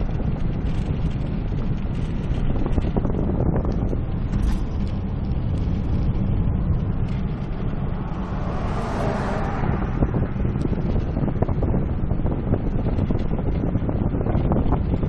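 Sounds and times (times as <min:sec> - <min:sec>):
engine and tyre rumble: 0:00.0 - 0:15.0
wind buffeting microphone: 0:00.0 - 0:15.0.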